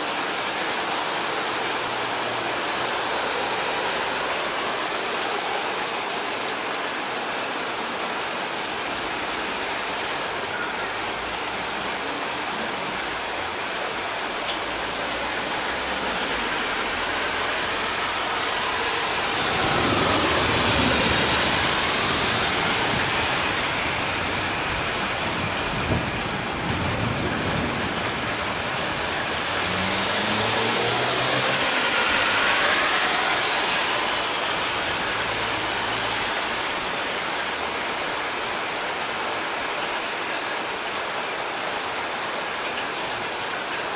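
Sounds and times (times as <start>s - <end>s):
heavy rain on roofs and streets: 0.0s - 43.9s.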